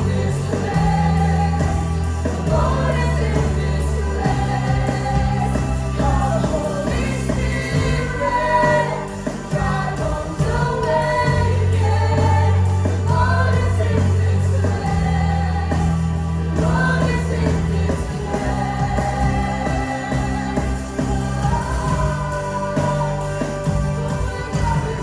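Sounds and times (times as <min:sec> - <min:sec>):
band playing slow gospel music: 0:00.0 - 0:25.0
held bass notes: 0:00.0 - 0:25.0.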